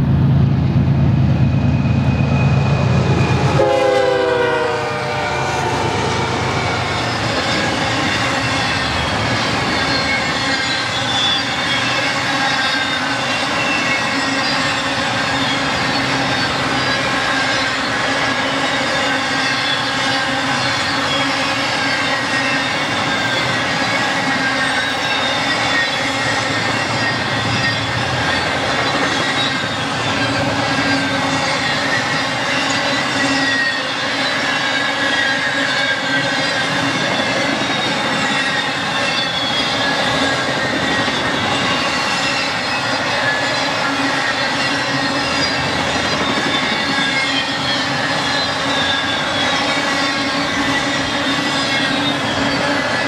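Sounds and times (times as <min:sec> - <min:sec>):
train wheels rolling on rails: 0:00.0 - 0:53.0
high wheel squeal: 0:01.6 - 0:53.0.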